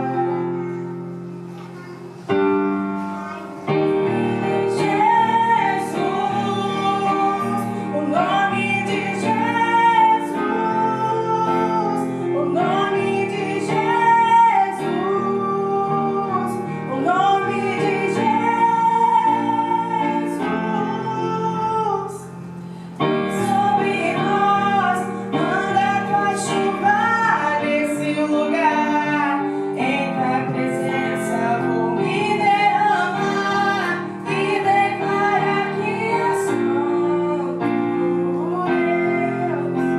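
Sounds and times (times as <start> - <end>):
piano accompaniment: 0.0 - 39.9
woman singing slow song: 4.1 - 39.9.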